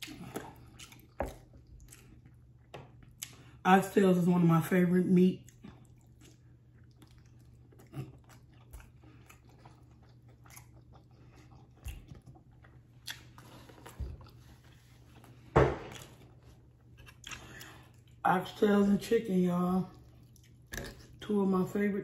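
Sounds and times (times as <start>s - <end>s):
chewing and mouth smacks: 0.0s - 3.6s, 5.4s - 18.2s, 19.9s - 21.2s.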